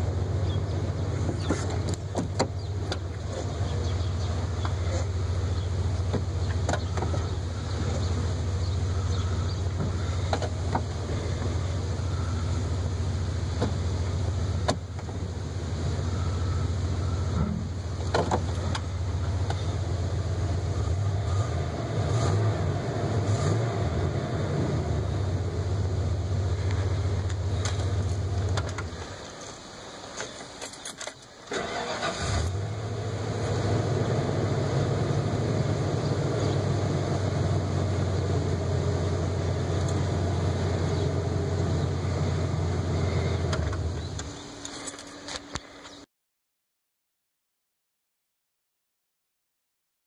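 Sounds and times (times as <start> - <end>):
engine idling: 0.0 - 30.1, 31.5 - 45.9.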